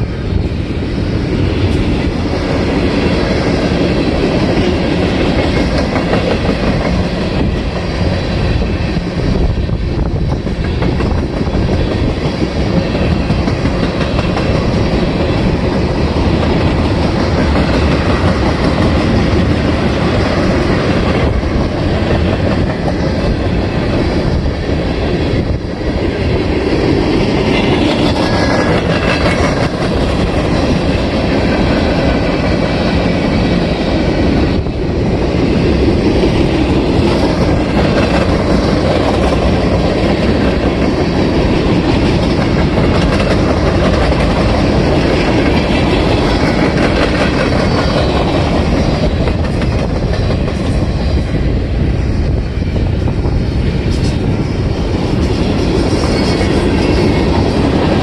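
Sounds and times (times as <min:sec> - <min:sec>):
clickety-clack over rail joints: 0:00.0 - 0:58.0
train wheels rumbling: 0:00.0 - 0:58.0.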